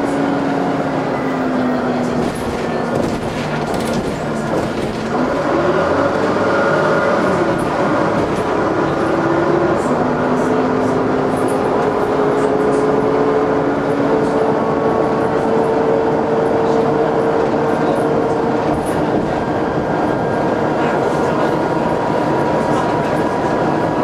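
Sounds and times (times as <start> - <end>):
bus engine and drivetrain whine: 0.0 - 24.0.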